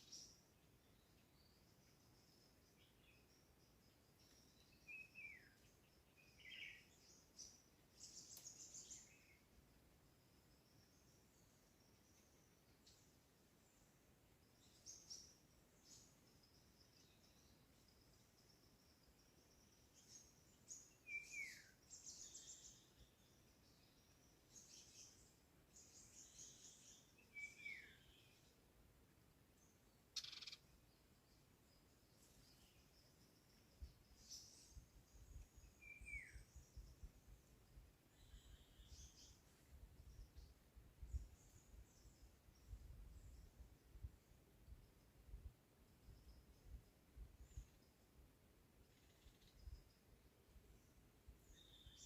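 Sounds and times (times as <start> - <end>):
faint forest birdsong: 0.0 - 52.0.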